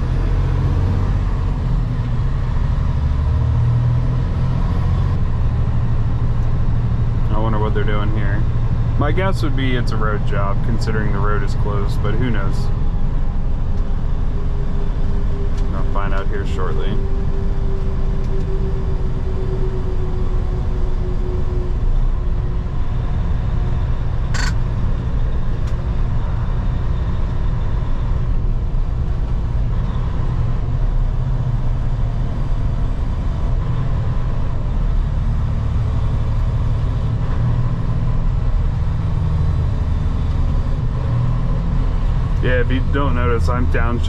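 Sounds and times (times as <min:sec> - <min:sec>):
road noise: 0:00.0 - 0:44.0
truck diesel engine drone: 0:00.0 - 0:44.0.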